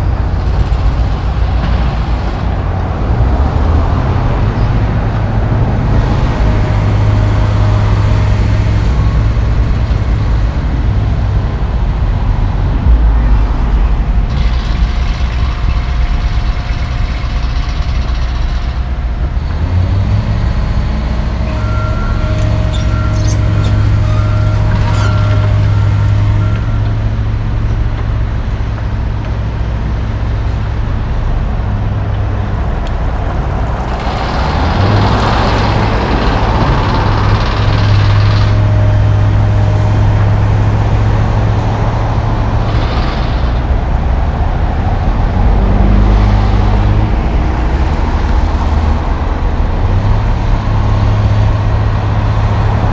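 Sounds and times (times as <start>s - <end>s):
diesel engines running: 0.0s - 52.9s.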